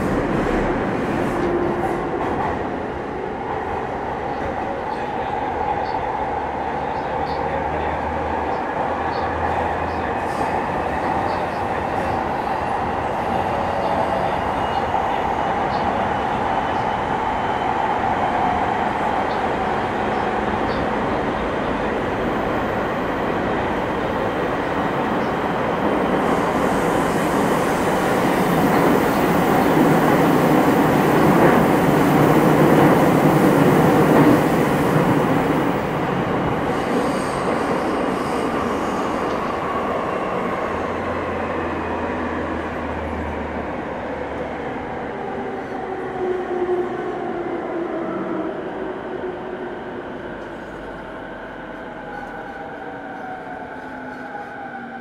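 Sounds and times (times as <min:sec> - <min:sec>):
train wheel and rail rumble: 0:00.0 - 0:55.0.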